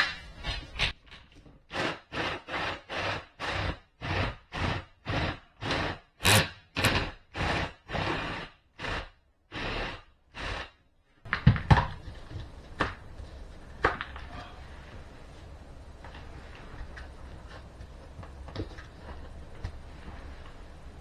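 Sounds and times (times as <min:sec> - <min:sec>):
hand tool scraping a wall panel: 0:00.0 - 0:10.8, 0:11.8 - 0:21.0.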